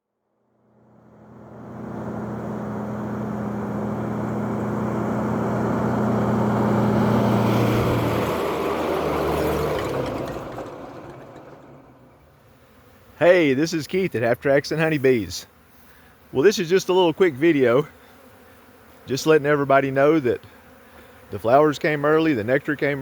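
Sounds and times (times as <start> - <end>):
motor passing by: 0.6 - 23.0.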